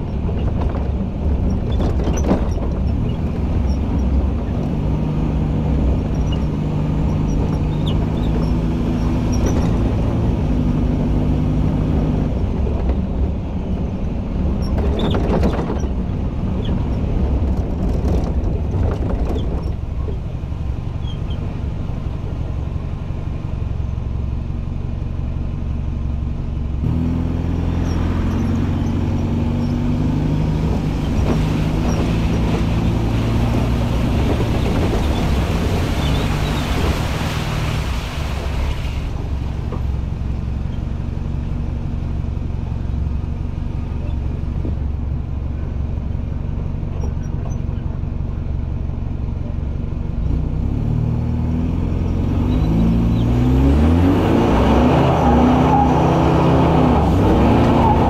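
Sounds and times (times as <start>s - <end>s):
vehicle engine running: 0.0s - 53.7s
road and traffic noise: 0.0s - 58.0s.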